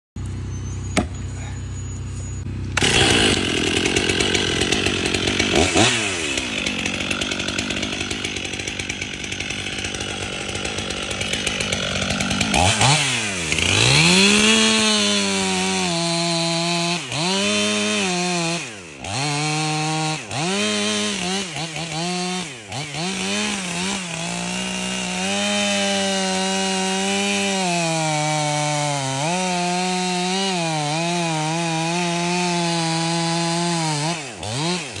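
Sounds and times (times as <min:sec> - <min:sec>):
chainsaw cutting wood: 0:00.2 - 0:35.0
high chainsaw engine note: 0:00.2 - 0:35.0.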